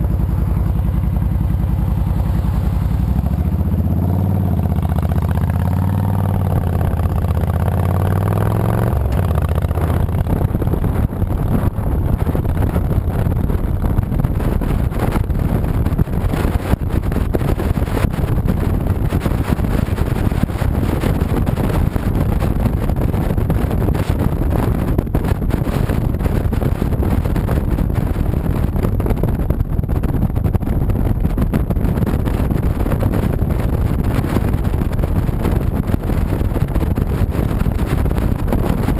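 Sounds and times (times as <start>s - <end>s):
motorcycle engine: 0.0s - 38.9s
wind and road noise: 0.0s - 38.9s.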